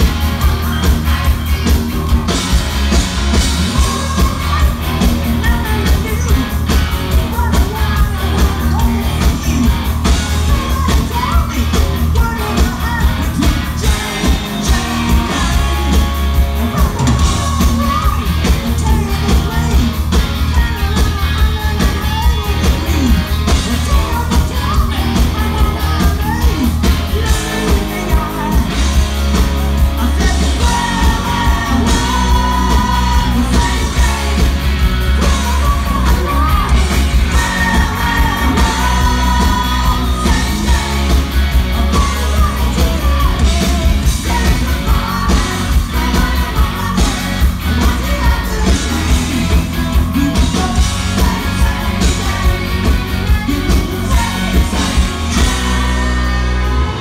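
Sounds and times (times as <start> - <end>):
bass guitar: 0.0 - 57.0
drums: 0.0 - 57.0
electric guitars: 0.0 - 57.0
man singing: 3.7 - 57.0.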